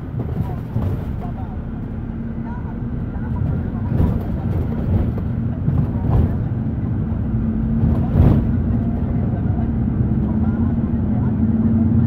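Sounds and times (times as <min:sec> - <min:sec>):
constant hum: 0:00.0 - 0:12.0
engine and road rumble: 0:00.0 - 0:12.0.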